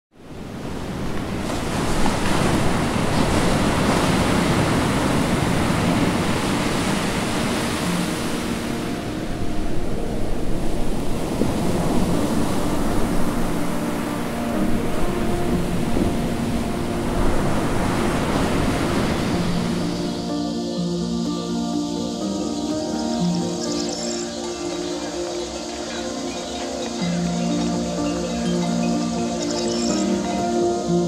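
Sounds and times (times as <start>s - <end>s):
wind: 0.1s - 31.0s
sea surf rushing: 0.2s - 31.0s.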